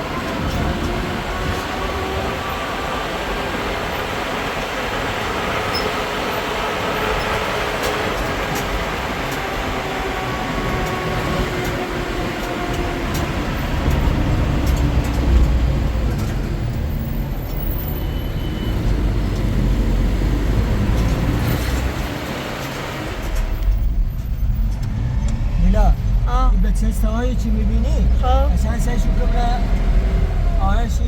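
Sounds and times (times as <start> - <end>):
road noise: 0.0 - 31.0
vehicle engine rumble: 0.0 - 31.0.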